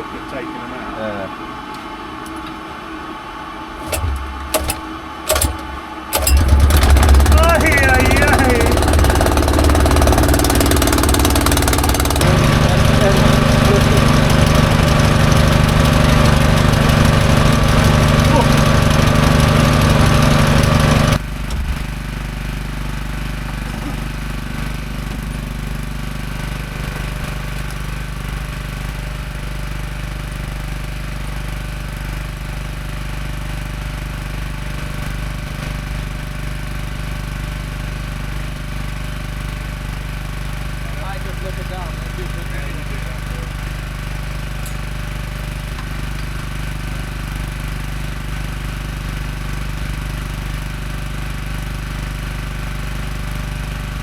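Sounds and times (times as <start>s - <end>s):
bandsaw mill engine running: 1.7s - 54.0s.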